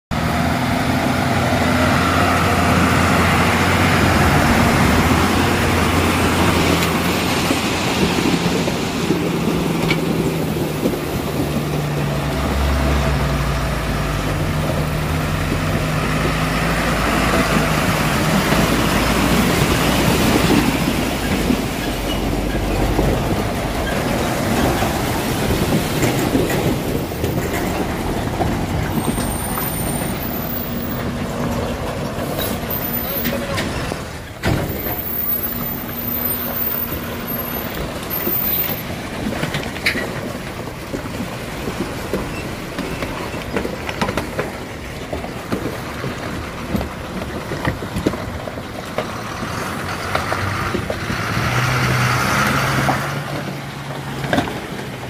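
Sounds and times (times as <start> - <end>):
diesel truck engines under load: 0.1 - 55.0.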